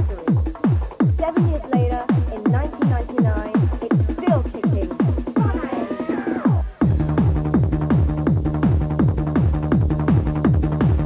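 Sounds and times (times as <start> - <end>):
booming kick drum: 0.0 - 5.8, 6.4 - 11.0.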